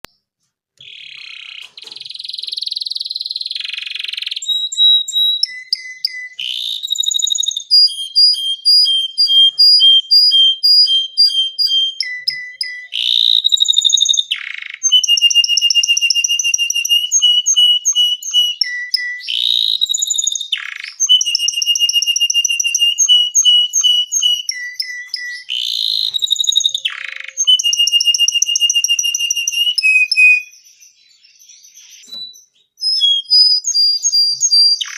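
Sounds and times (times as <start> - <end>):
canary singing: 0.8 - 34.9.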